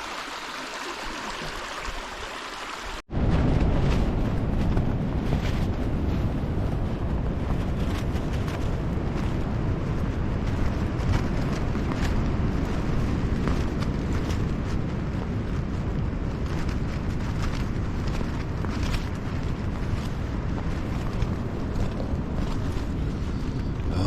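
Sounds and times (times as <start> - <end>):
gusty wind buffeting microphone: 3.0 - 24.0.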